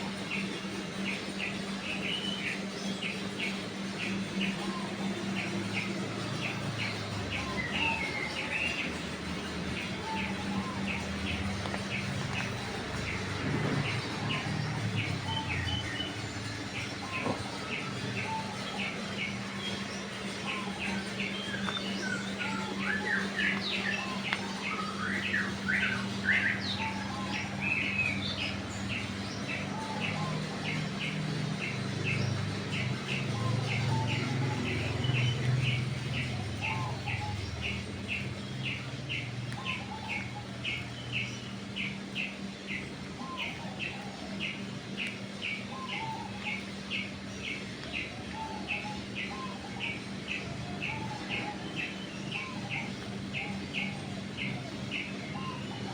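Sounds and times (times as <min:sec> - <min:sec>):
other birds calling: 0:00.0 - 0:55.9
steady low hum: 0:00.0 - 0:55.9.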